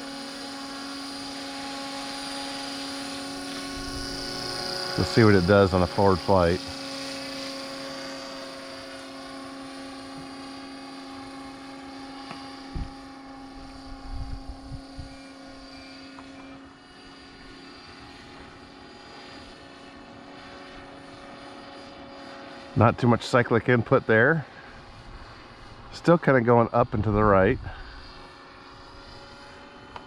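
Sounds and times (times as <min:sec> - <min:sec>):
helicopter rotor and motor whine: 0:00.0 - 0:30.0.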